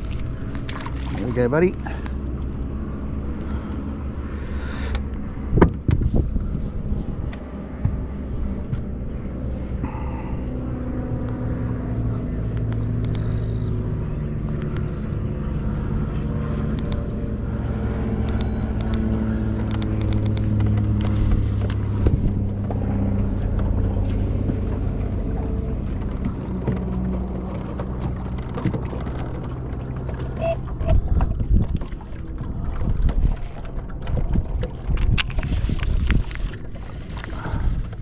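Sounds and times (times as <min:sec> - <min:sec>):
boat motor running: 0:00.0 - 0:38.0.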